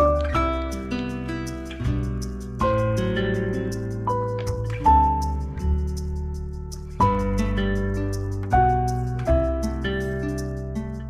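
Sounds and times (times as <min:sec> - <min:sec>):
plucked melody over bass: 0:00.0 - 0:11.0.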